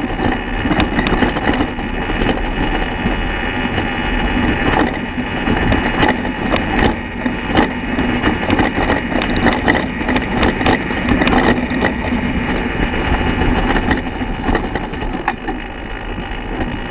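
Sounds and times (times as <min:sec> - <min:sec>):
tyre noise: 0:00.0 - 0:16.9
wind noise: 0:00.0 - 0:16.9.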